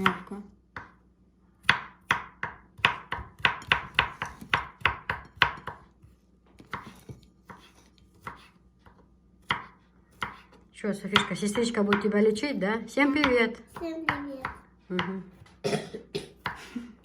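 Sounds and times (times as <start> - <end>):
knife chopping garlic: 0.0 - 1.0, 1.6 - 12.2, 13.0 - 15.4, 16.4 - 16.8.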